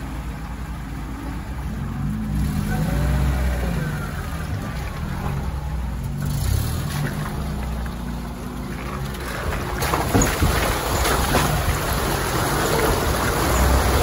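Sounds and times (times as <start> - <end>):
water and mud splashing: 2.6 - 14.0.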